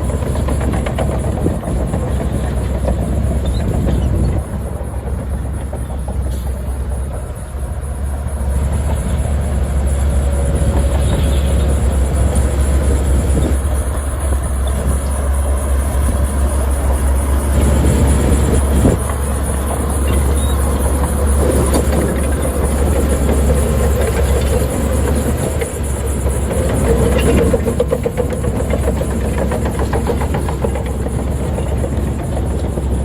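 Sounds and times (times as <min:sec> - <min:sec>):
heavy machinery engine rumble: 0:00.0 - 0:33.0
rapid mechanical clatter: 0:00.0 - 0:33.0.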